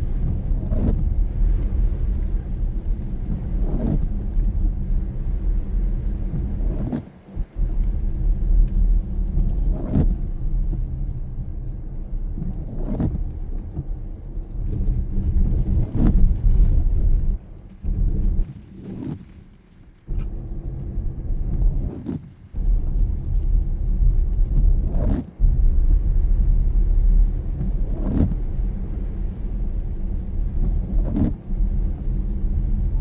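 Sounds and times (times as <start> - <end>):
windshield wiper sweep: 0.0 - 8.1, 9.0 - 11.0, 12.3 - 19.5, 20.1 - 33.0
car engine and road rumble: 0.0 - 33.0.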